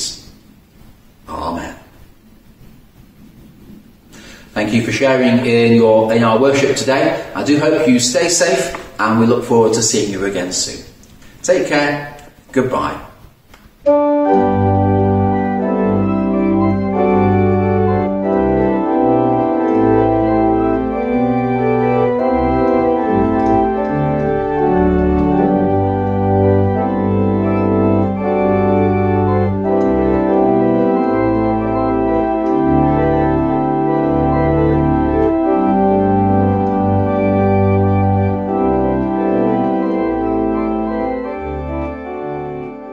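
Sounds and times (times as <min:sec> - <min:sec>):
organ playing slow chords: 0:03.9 - 0:12.4, 0:13.8 - 0:42.9.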